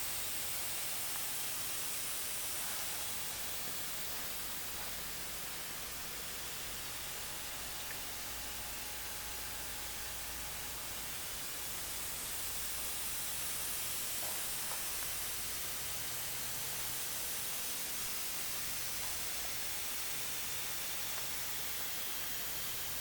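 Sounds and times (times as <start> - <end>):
steady broadband hiss: 0.0 - 23.0.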